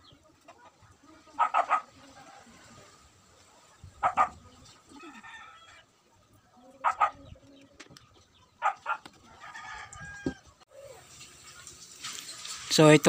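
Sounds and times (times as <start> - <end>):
chickens clucking: 0.0 - 11.8.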